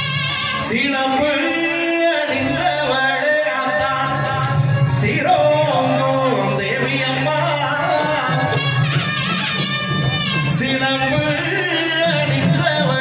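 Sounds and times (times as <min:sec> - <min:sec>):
band with drums and keyboard: 0:00.0 - 0:13.0
man singing into a microphone: 0:00.0 - 0:13.0.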